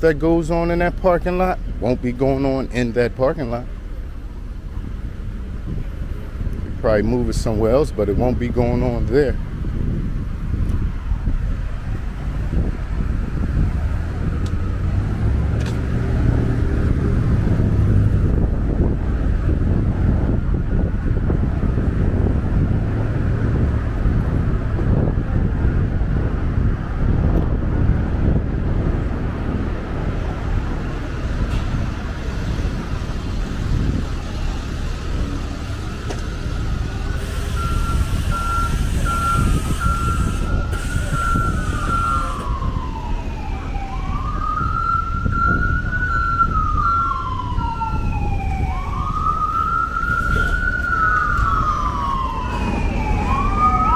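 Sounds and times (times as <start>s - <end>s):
street traffic rumble: 0.0s - 53.9s
emergency vehicle siren wailing: 0.1s - 53.9s.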